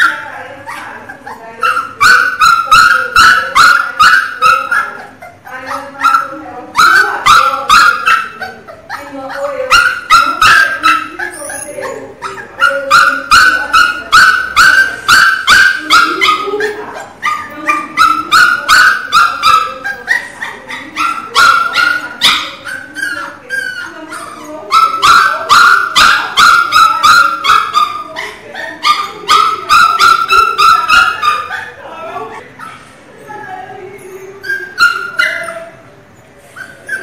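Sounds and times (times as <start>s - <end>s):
puppy crying high-pitched: 0.0s - 35.8s, 36.6s - 37.0s.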